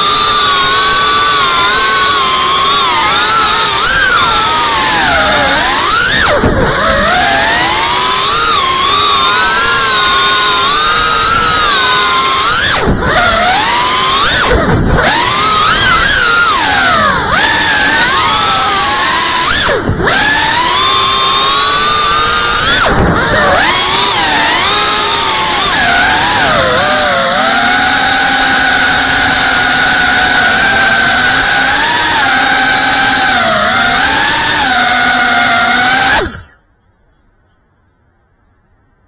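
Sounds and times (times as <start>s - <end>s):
drone motors whining: 0.0s - 36.7s.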